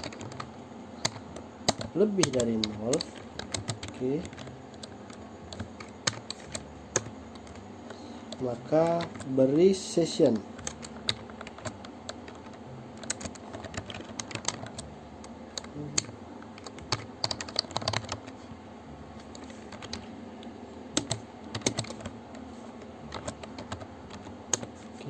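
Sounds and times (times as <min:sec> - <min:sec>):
keyboard typing: 0:00.0 - 0:09.4, 0:10.3 - 0:18.5, 0:19.2 - 0:24.8
low steady hum: 0:00.0 - 0:25.0.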